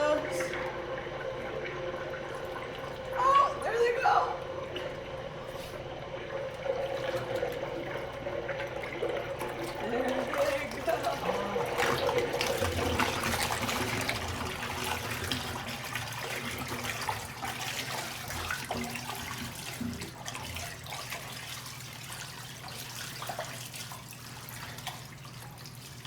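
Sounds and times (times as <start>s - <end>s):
toilet flush water rushing: 0.0s - 26.0s.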